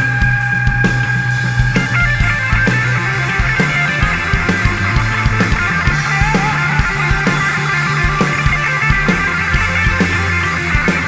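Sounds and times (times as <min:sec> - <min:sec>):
distorted electric guitar: 0:00.0 - 0:11.0
electric bass: 0:00.0 - 0:11.0
steady drum beat: 0:00.0 - 0:11.0.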